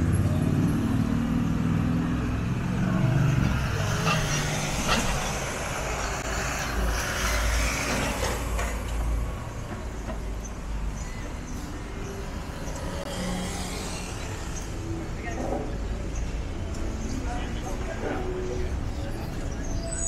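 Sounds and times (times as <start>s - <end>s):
heavy vehicle engine rumble: 0.0s - 20.0s
street traffic noise: 0.0s - 20.0s.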